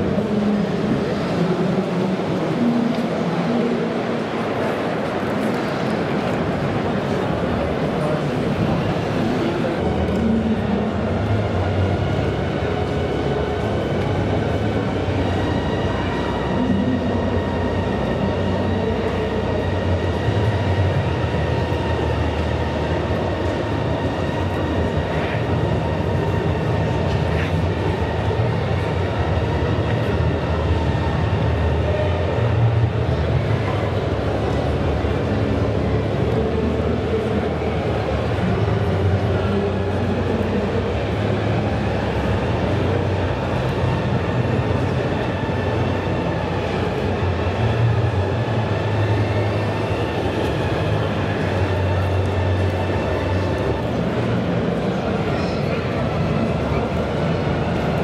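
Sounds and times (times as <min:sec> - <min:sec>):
busy indoor hall rumble: 0:00.0 - 0:58.0.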